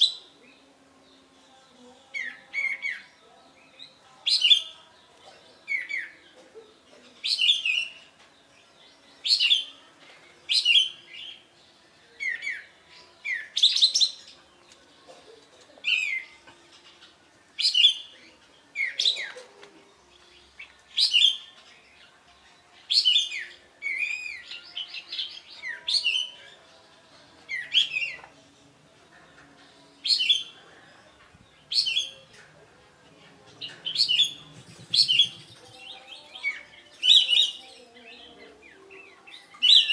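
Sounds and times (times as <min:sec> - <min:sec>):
bird chirping phrases: 0:00.0 - 0:39.9.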